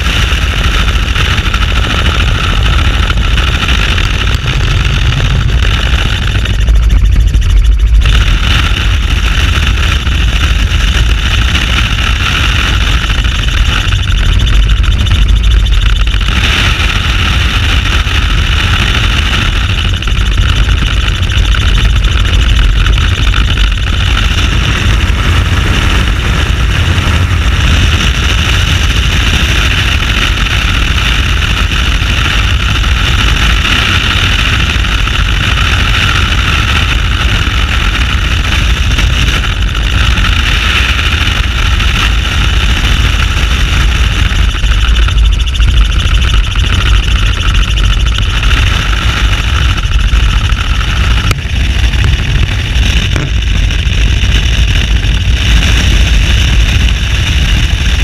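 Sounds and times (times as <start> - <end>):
helicopter rotor and engine: 0.0 - 58.0
wind rumble on microphone: 0.0 - 58.0.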